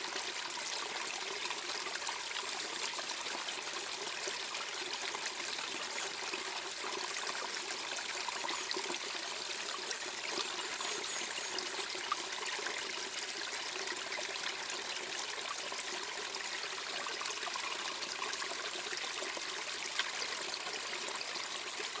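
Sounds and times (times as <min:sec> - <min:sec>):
trickling water: 0:00.0 - 0:22.0.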